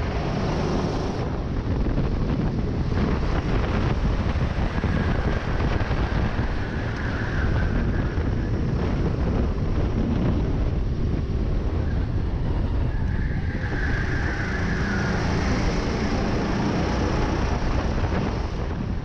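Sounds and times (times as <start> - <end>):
high whine: 0.0 - 19.0
kart engine running: 0.0 - 19.0
wind buffeting microphone: 0.0 - 19.0.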